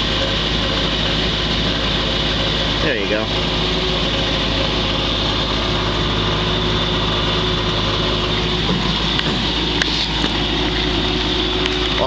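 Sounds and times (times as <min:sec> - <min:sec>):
car engine idling quietly: 0:00.0 - 0:12.0.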